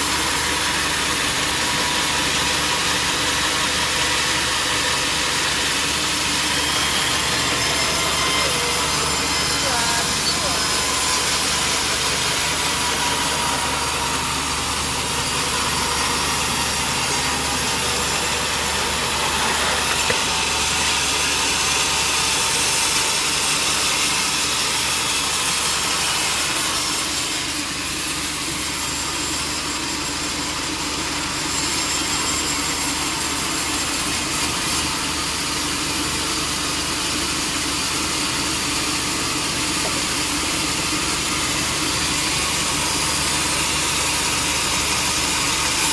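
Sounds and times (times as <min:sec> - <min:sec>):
sawmill saw cutting wood: 0:00.0 - 0:45.9.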